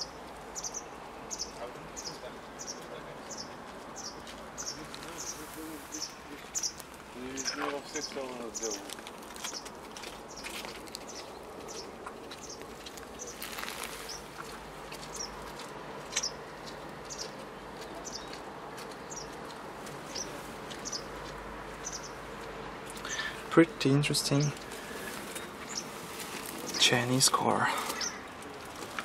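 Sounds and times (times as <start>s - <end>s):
faint background noise: 0.0s - 29.0s
small birds chirping: 0.0s - 29.0s.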